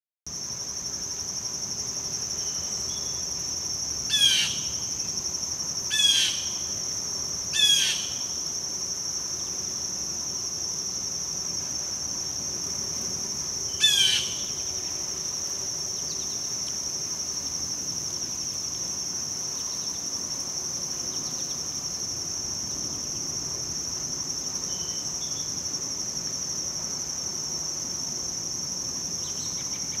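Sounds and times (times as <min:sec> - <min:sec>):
insects trilling: 0:00.3 - 0:30.0.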